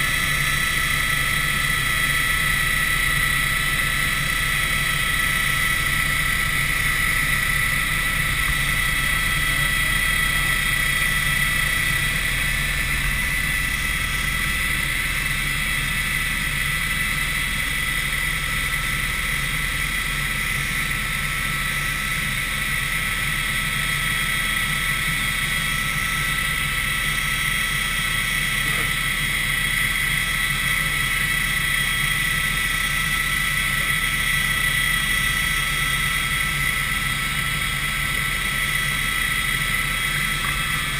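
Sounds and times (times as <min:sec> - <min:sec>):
helicopter engine and rotors droning: 0:00.0 - 0:40.9.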